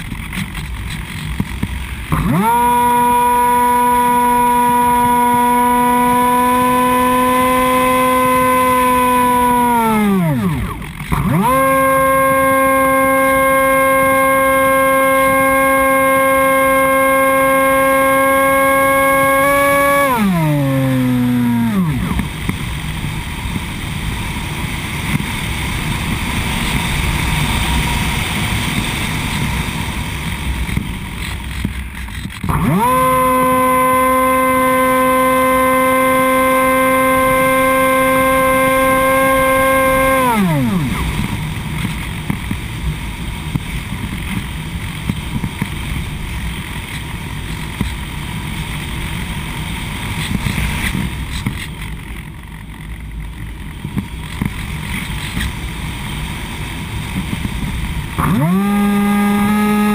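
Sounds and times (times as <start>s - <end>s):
model plane motor whine: 0.0s - 59.9s.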